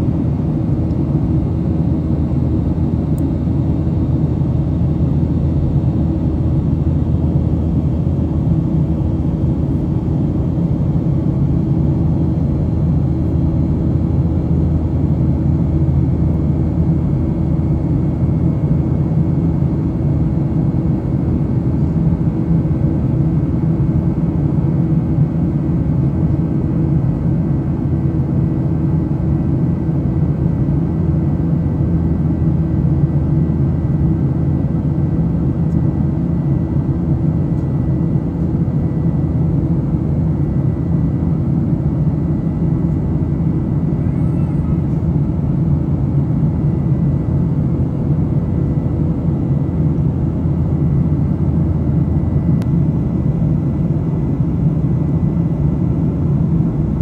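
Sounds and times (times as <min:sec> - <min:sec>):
jet engine drone in cabin: 0:00.0 - 0:57.0.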